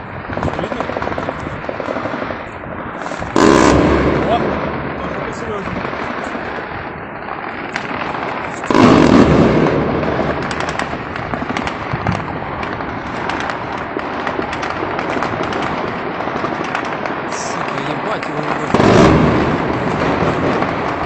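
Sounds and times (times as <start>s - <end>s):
gunfire crackle: 0.0s - 21.0s
loud explosion: 0.0s - 21.0s.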